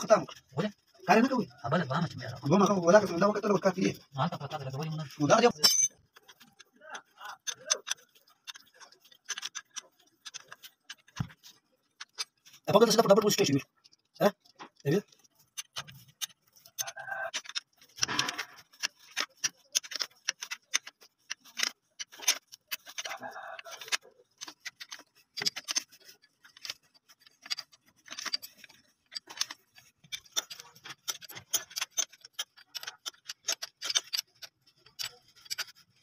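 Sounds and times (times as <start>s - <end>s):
metal scraping on metal: 0.0s - 36.0s.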